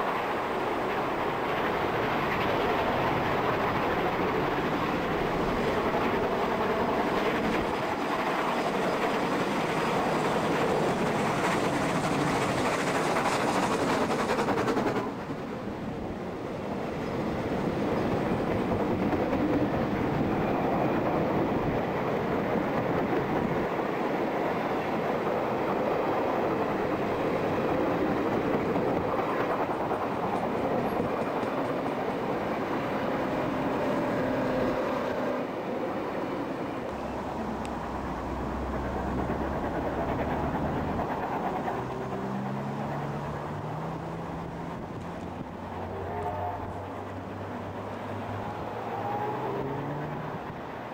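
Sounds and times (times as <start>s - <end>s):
steam train passing: 0.0s - 50.9s.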